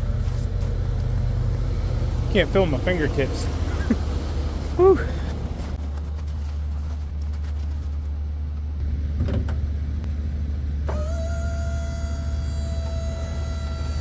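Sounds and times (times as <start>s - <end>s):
pickup engine running: 0.0s - 14.0s.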